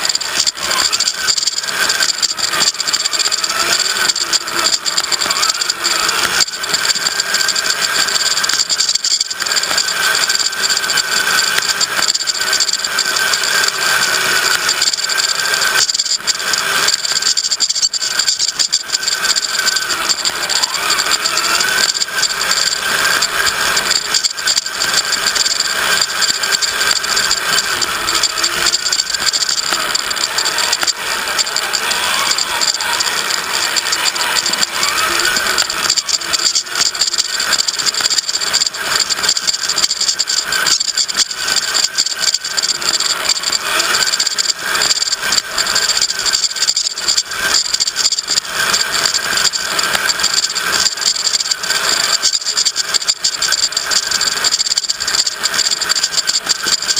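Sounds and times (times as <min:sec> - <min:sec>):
chassis and tyres rattling: 0:00.0 - 0:56.9
motor and gear whine: 0:00.0 - 0:56.9.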